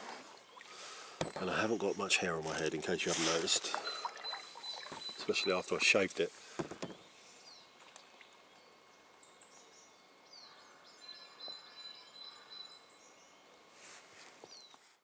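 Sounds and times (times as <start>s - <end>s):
birds chirping: 0.0s - 13.7s
outdoor background noise: 0.0s - 15.0s.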